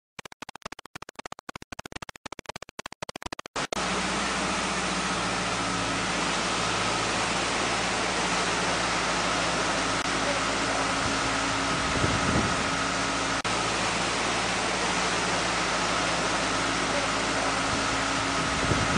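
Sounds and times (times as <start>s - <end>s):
steady rushing noise: 3.2s - 18.9s
diesel engine low hum: 3.7s - 18.9s.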